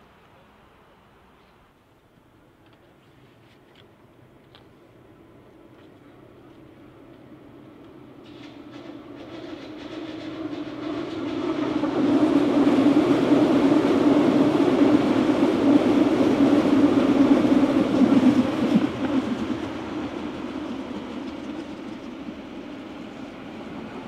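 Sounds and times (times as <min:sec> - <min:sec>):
train passing on rails: 0:00.0 - 0:24.0.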